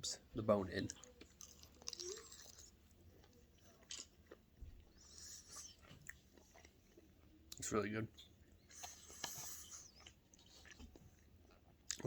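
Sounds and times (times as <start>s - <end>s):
person chewing: 0.8s - 12.0s.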